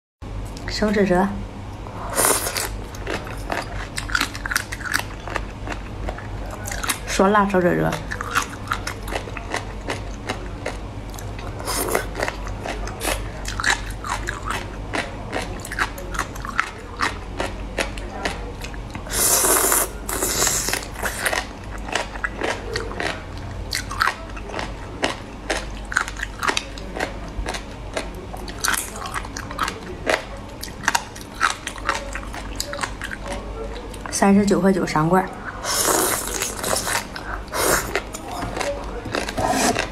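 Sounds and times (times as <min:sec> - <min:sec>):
steady low hum: 0:00.2 - 0:39.9
chewing gelatinous food: 0:01.8 - 0:07.2, 0:07.9 - 0:34.2, 0:35.4 - 0:39.9.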